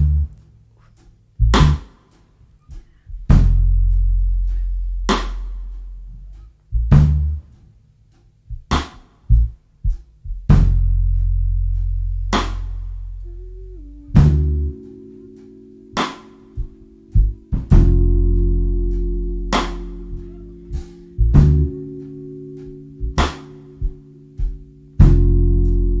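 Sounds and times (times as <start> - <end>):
low electric bass notes: 0.0 - 26.0
drum kit strikes: 1.4 - 6.1, 6.8 - 7.6, 8.5 - 13.2, 14.1 - 26.0.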